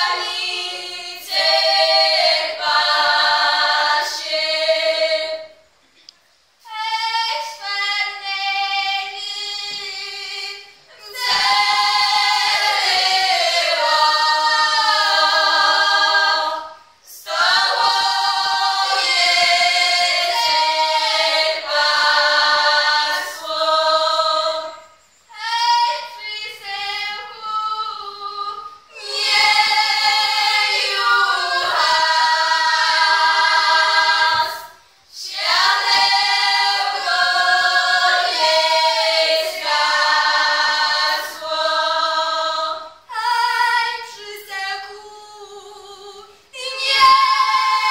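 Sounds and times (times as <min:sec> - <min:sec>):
women singing unaccompanied: 0:00.0 - 0:05.6, 0:06.6 - 0:47.9.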